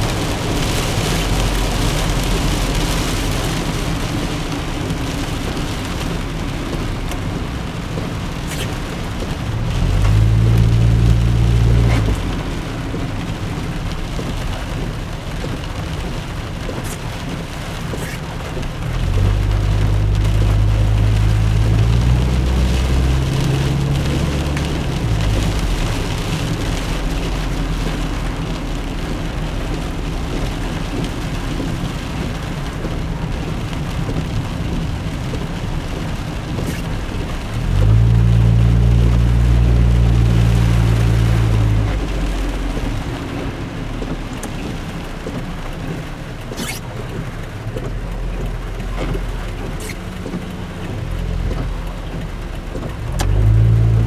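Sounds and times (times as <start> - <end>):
rain on a car: 0.0 - 54.0
tyres on wet road: 0.0 - 54.0.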